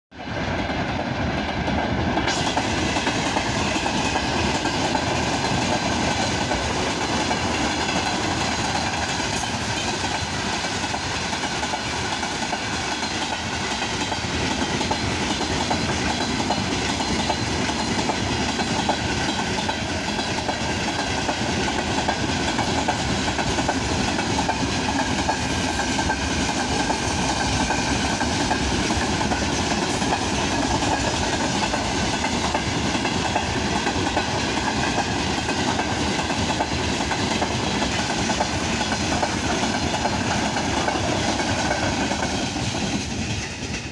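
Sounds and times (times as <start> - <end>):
train wheels on rails: 0.1 - 43.9.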